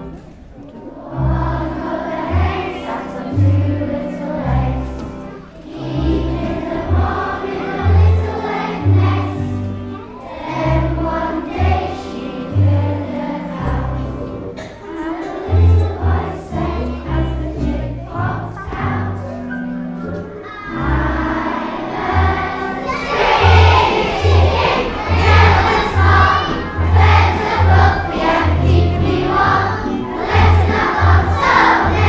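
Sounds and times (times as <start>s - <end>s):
children singing together: 0.0s - 32.0s.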